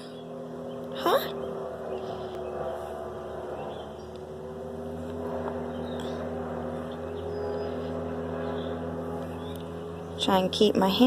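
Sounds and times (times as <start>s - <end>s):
steady motor drone: 0.0s - 11.0s.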